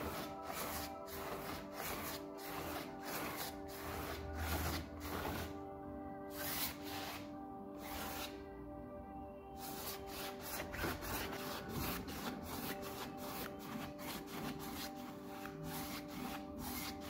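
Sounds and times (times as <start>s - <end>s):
rapid rubbing strokes: 0.0s - 5.6s, 6.3s - 8.4s, 9.6s - 17.0s
background music with held notes: 0.0s - 17.0s.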